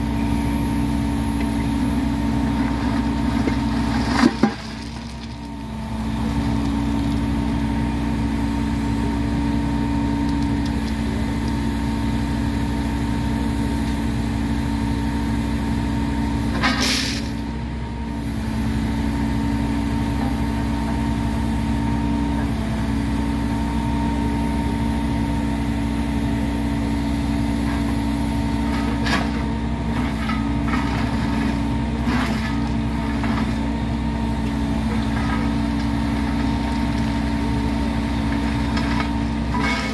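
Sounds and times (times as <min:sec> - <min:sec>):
heavy equipment engine running: 0:00.0 - 0:39.9.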